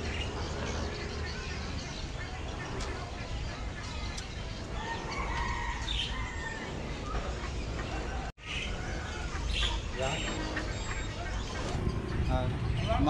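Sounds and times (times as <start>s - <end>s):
chickens and birds squawking: 0.0s - 13.0s.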